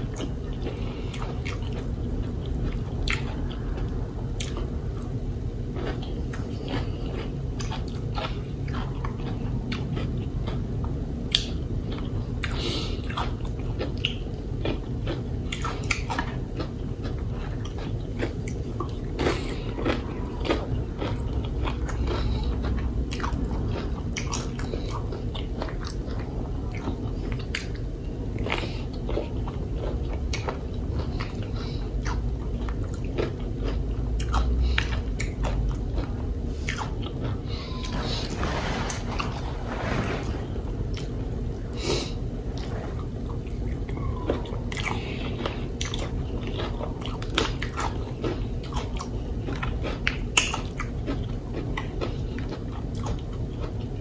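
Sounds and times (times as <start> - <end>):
crunching food: 0.0 - 54.0
wet chewing: 0.0 - 54.0.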